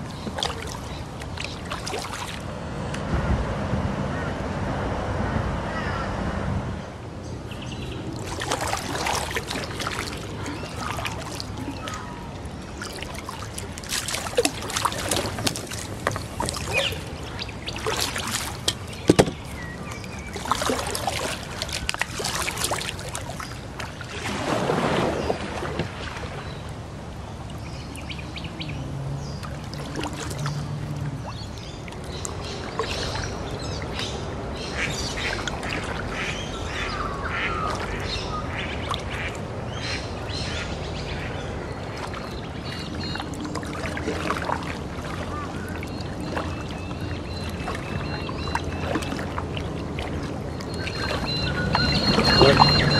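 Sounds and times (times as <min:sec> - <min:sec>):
kayak paddle splashing and dripping: 0:00.0 - 0:02.4, 0:08.0 - 0:26.8, 0:27.4 - 0:40.4, 0:41.6 - 0:52.9.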